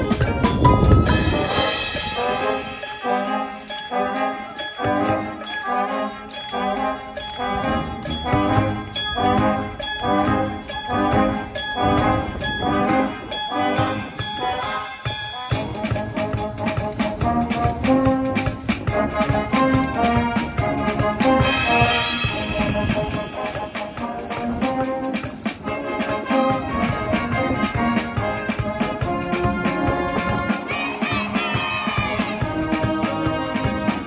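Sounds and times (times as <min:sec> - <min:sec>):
drum kit and cymbals: 0:00.0 - 0:05.6, 0:07.2 - 0:34.0
brass band playing: 0:00.0 - 0:34.0.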